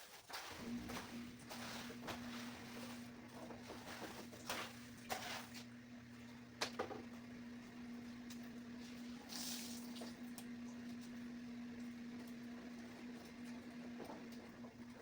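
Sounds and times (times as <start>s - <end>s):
faint steady hum: 0.5s - 15.0s.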